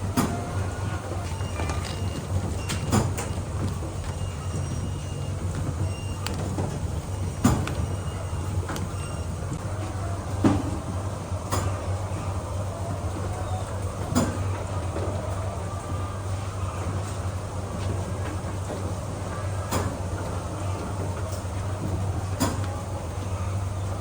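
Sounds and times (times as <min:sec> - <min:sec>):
farm machinery humming: 0:00.0 - 0:24.0.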